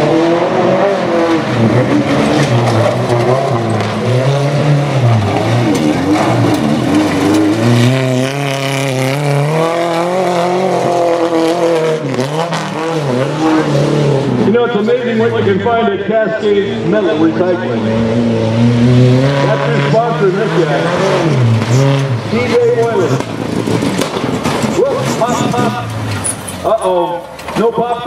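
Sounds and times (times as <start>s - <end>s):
pickup truck engines revving: 0.0s - 28.0s.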